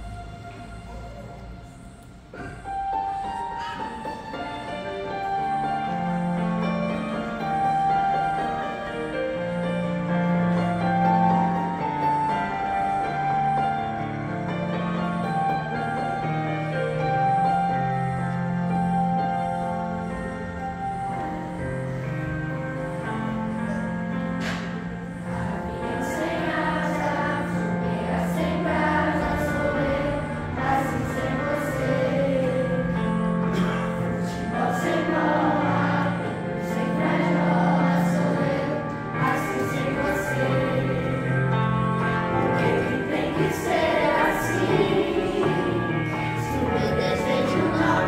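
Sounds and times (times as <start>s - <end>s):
children's choir singing: 0.0s - 48.0s
electronic keyboard chords: 0.0s - 48.0s.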